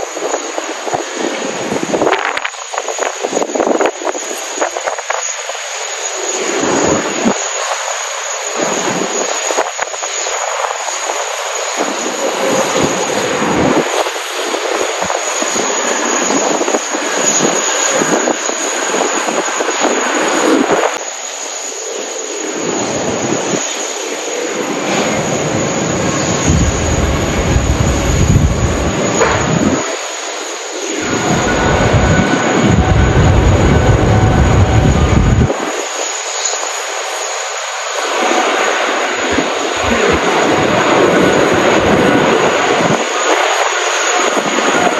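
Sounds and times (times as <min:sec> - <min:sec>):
wind buffeting microphone: 0:00.0 - 0:21.0, 0:24.5 - 0:30.1, 0:30.7 - 0:37.0, 0:38.0 - 0:44.9
jet engines with high whine: 0:00.0 - 0:44.9.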